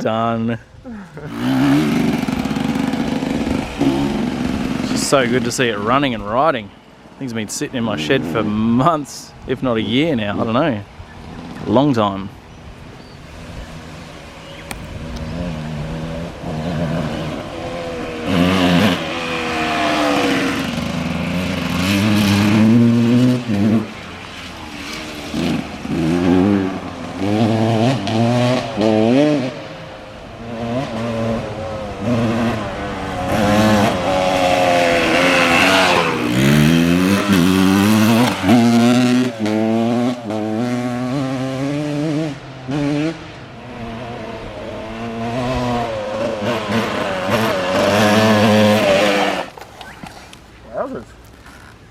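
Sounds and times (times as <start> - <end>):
dirt bike engine revving: 0.9 - 51.9.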